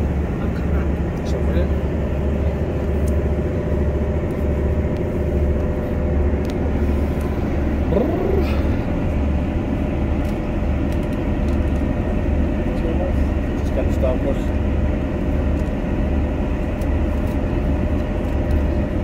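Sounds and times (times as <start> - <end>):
constant drone: 0.0 - 19.0
train rumbling inside carriage: 0.0 - 19.0.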